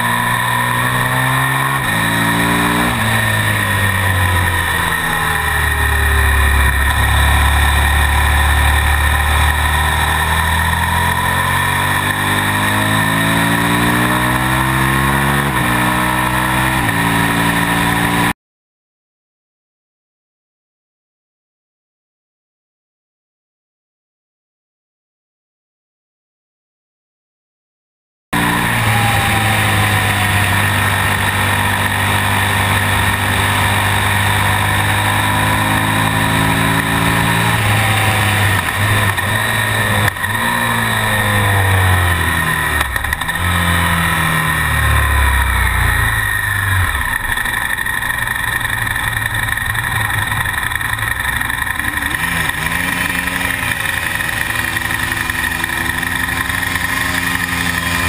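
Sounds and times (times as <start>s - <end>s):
motorcycle engine revving down: 0.0s - 18.4s, 28.4s - 58.0s.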